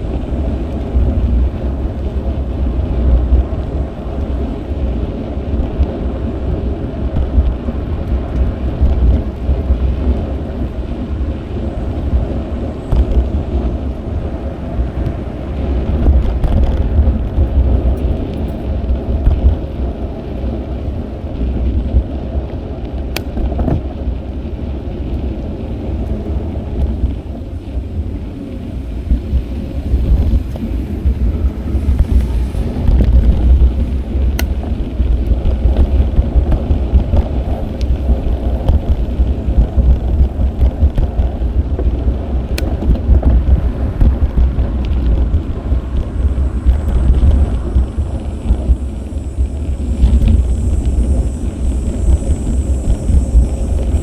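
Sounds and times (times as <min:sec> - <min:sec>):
bicycle tyre and road noise: 0:00.0 - 0:54.0
wind buffeting microphone: 0:00.0 - 0:54.0.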